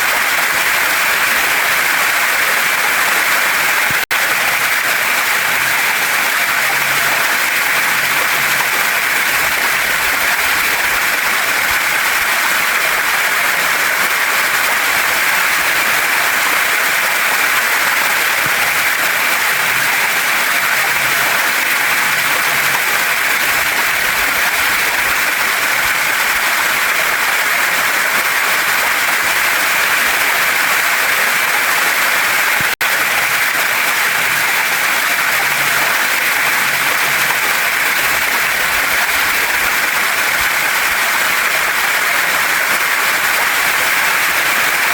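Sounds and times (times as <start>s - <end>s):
waterfall pouring over rocks: 0.0s - 44.9s.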